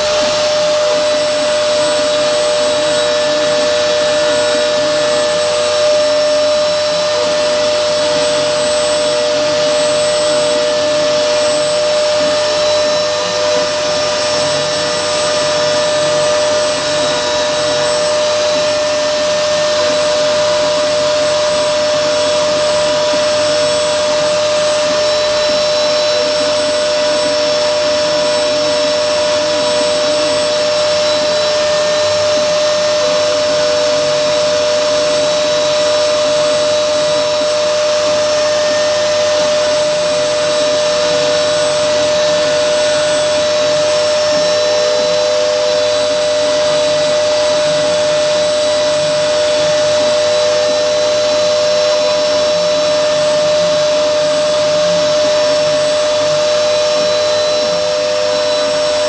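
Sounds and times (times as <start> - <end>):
router spindle motor whine: 0.0 - 59.0.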